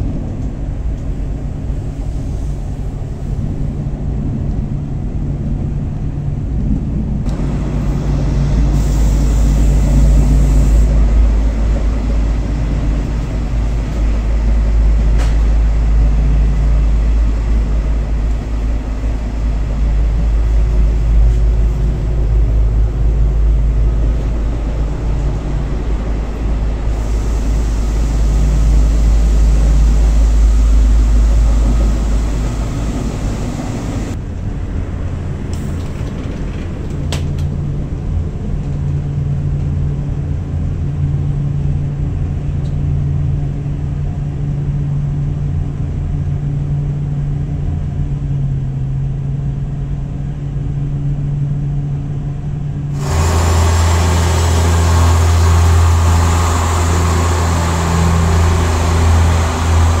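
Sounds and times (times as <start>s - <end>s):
steady hum in train saloon: 0.0s - 60.0s
train rumble from inside: 0.0s - 60.0s
train rushing past platform: 0.0s - 60.0s.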